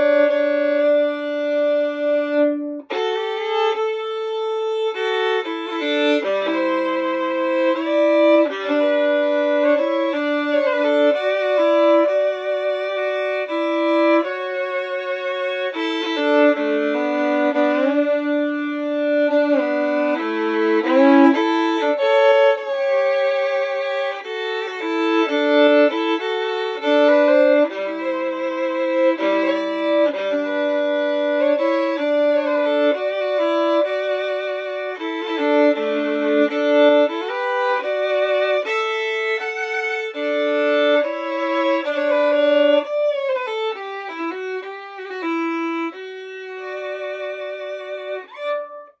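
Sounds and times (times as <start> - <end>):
solo violin melody: 0.0 - 49.0.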